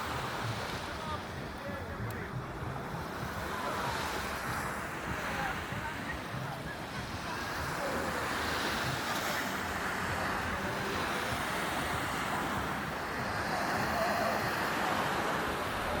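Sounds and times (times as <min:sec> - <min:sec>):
waves washing onto beach: 0:00.0 - 0:16.0.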